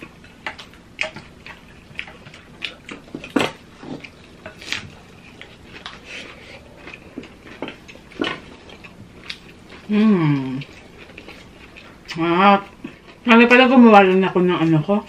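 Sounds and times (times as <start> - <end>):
wet chewing and crunching: 0.0 - 14.8.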